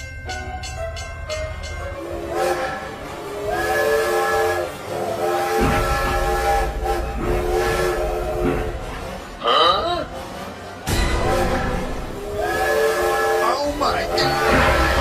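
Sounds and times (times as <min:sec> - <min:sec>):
music: 0:00.0 - 0:15.0
multi-tone air horn blasts: 0:02.0 - 0:10.3, 0:11.2 - 0:15.0.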